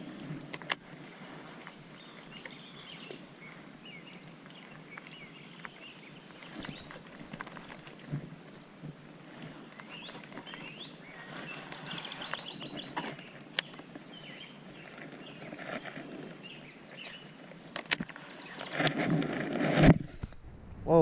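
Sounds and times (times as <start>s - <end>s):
birds chirping and trilling: 0.0s - 19.0s
faint outdoor noise: 0.0s - 21.0s.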